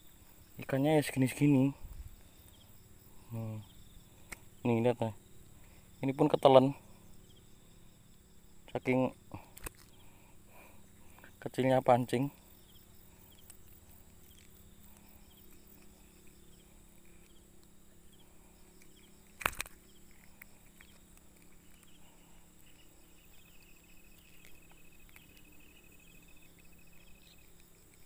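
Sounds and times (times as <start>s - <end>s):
insect trill: 0.0s - 28.0s
insects chirping: 0.0s - 28.0s.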